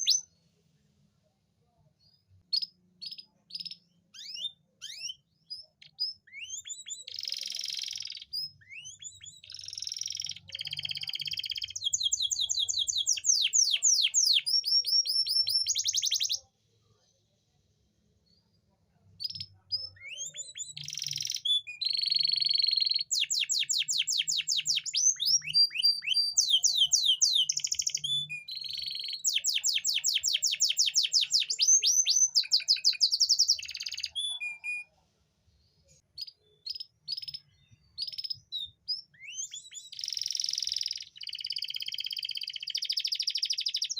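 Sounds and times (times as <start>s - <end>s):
canary singing trills: 2.0s - 16.5s, 19.2s - 34.9s, 36.0s - 43.9s.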